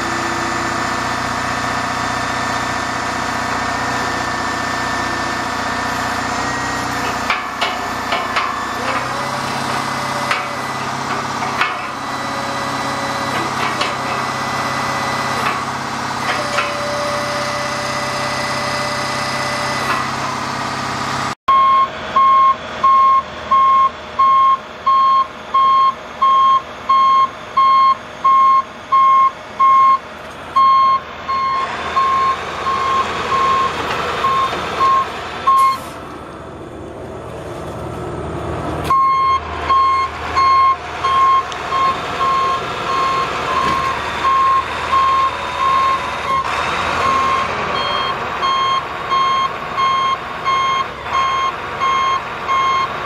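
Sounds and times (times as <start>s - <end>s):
truck engine running: 0.0s - 53.0s
truck warning alarm beeping: 6.2s - 20.1s, 21.5s - 36.0s, 38.9s - 53.0s.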